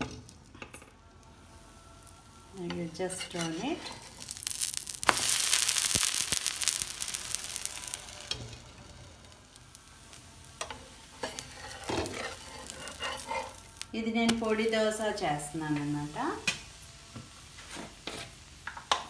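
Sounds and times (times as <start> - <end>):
dosa sizzling in oil: 0.0 - 19.0.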